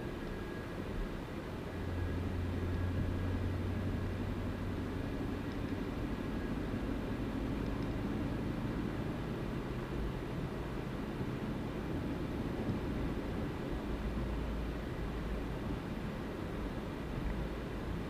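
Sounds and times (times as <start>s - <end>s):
car engine drone: 0.0s - 18.0s
road noise: 0.0s - 18.0s.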